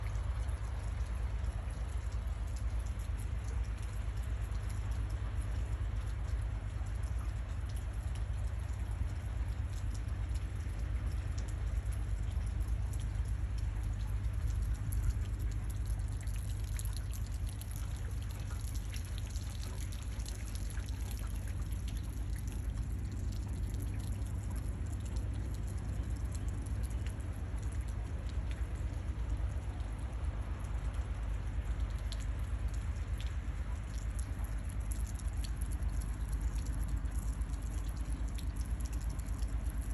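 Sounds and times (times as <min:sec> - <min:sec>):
rain falling: 0:00.0 - 0:39.9
steady low rumble: 0:00.0 - 0:39.9.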